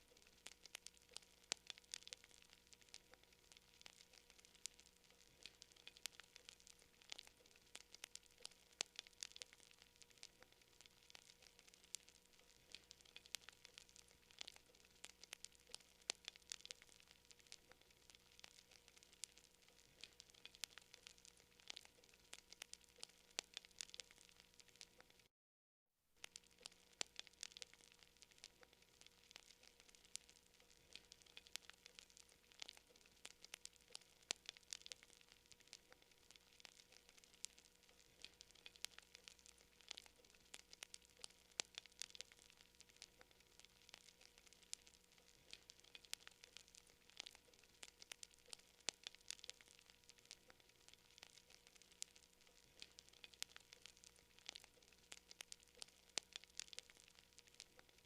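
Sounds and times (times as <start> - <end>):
campfire crackling and popping: 0.0 - 25.3, 26.2 - 58.0.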